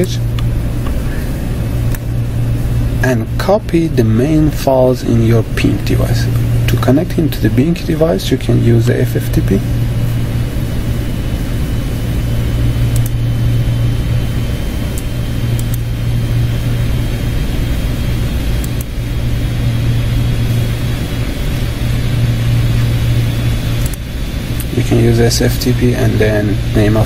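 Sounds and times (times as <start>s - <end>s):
low hum with hiss: 0.0s - 27.0s.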